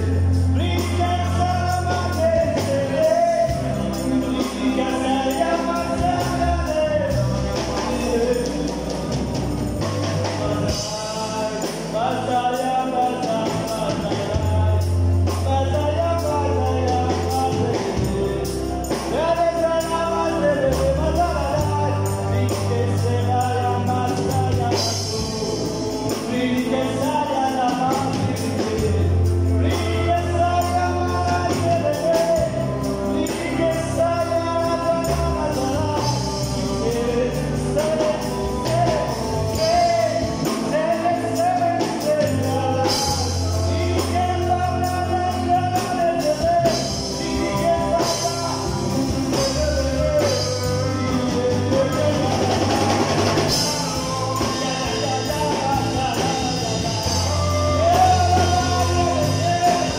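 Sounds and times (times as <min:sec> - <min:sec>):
backing singers: 0:00.0 - 0:59.9
bass line: 0:00.0 - 0:59.9
light percussion: 0:00.0 - 0:59.9
man singing into microphone: 0:00.0 - 0:59.9.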